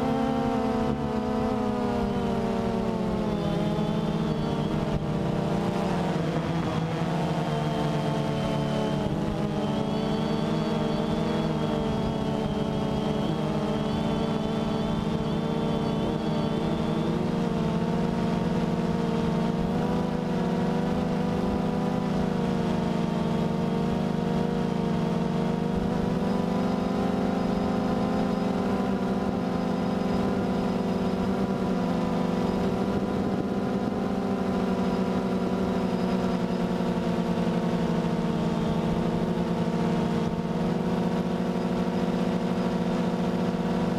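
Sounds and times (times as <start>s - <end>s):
quadcopter droning hum: 0.0s - 43.9s.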